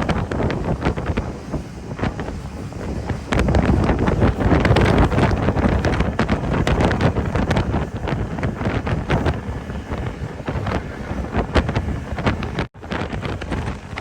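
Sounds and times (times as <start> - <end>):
rush of moving boat: 0.0 - 14.0
wind buffeting microphone: 0.0 - 14.0.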